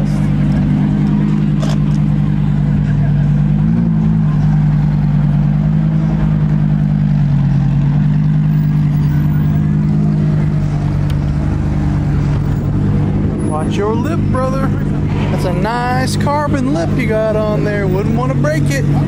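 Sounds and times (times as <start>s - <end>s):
car engines low drone: 0.0s - 19.0s.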